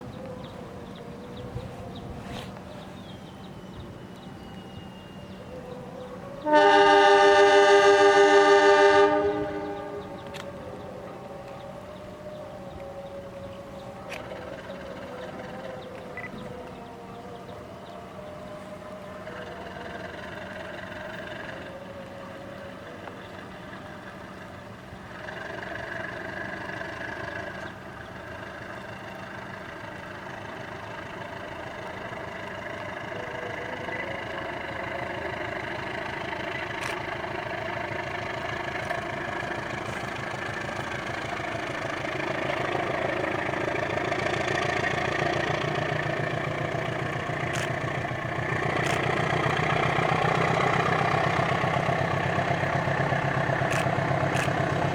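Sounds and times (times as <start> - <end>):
locomotive diesel engine running: 0.0 - 54.9.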